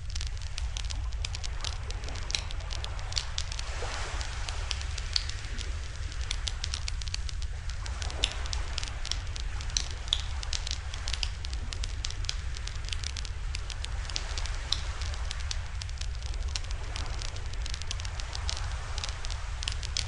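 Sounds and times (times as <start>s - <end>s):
campfire crackling and popping: 0.0s - 20.0s
fire low rumble: 0.0s - 20.0s.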